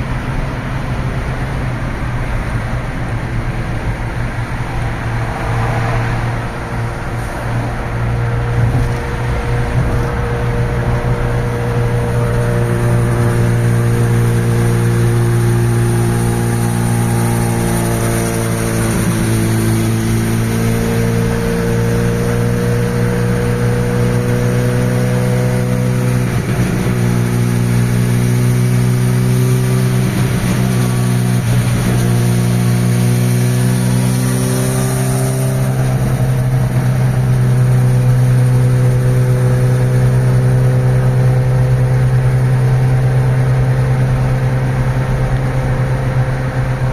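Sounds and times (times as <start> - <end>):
motorcycle engine running: 7.8 - 46.9.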